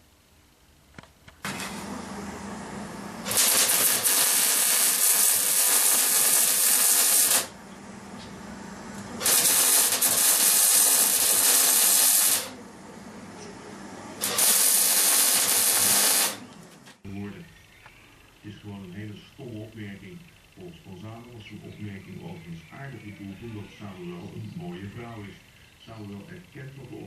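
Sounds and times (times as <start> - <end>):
low hum: 1.4 - 27.0.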